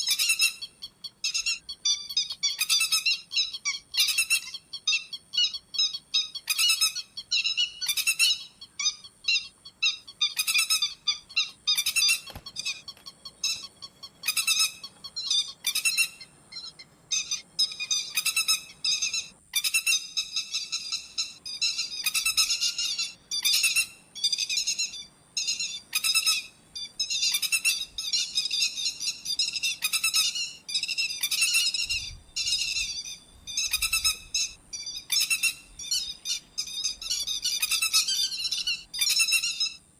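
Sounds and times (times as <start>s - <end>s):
lapwing calls: 0.0s - 39.9s.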